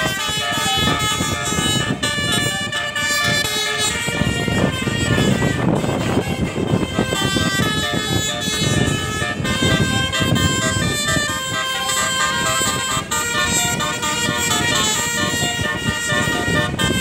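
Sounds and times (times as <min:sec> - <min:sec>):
bus engine rumble: 0:00.0 - 0:17.0
bus horn playing a tune: 0:00.0 - 0:17.0
road noise: 0:00.0 - 0:17.0.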